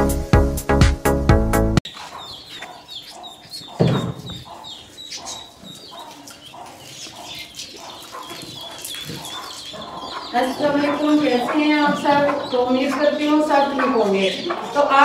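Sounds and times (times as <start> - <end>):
chickens clucking: 1.8 - 15.0
small birds chirping: 1.9 - 15.0.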